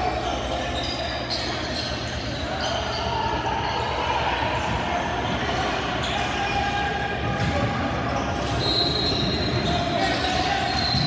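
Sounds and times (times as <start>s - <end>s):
echoing din of crowd: 0.0s - 11.0s.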